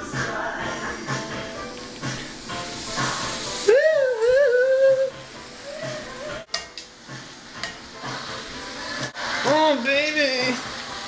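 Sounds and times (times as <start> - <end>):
background music with beat: 0.0 - 9.5.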